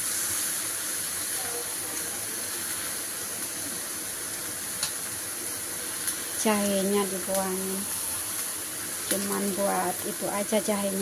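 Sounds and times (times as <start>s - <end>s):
greens sizzling in a wok: 0.0s - 11.0s.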